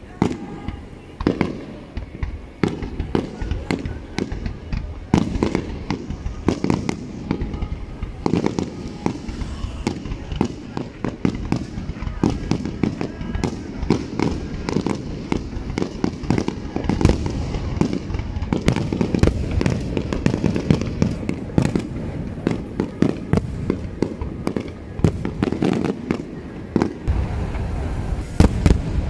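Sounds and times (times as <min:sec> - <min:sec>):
firework bangs: 0:00.0 - 0:29.0.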